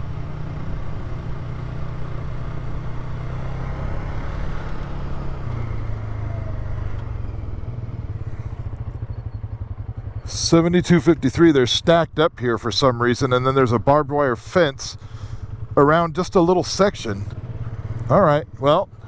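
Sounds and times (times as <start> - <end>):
quad engine running: 0.0 - 19.0.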